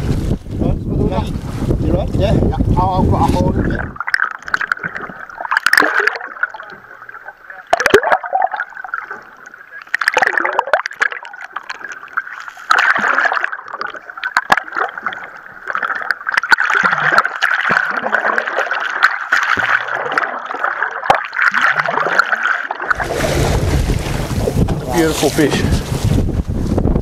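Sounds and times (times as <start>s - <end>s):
boat noise: 0.0s - 27.0s
muffled underwater water rushing: 0.0s - 27.0s
wind: 0.0s - 27.0s.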